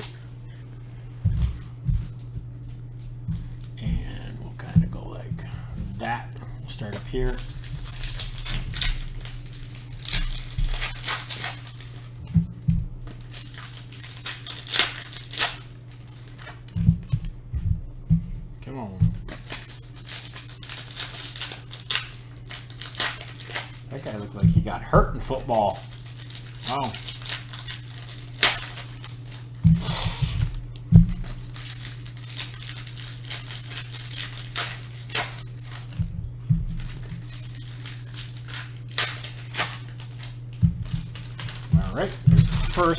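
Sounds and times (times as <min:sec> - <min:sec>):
foil packs tearing and crinkling: 0:00.0 - 0:18.1, 0:18.7 - 0:42.9
cards flicking and rustling: 0:00.0 - 0:42.9
steady low hum: 0:00.0 - 0:42.9
cards thudding down: 0:01.2 - 0:42.9.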